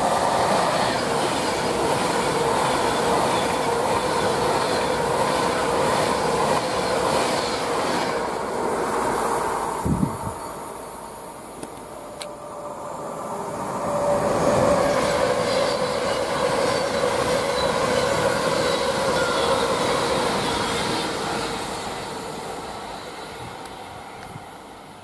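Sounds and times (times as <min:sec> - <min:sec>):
passenger train passing: 0:00.0 - 0:25.0.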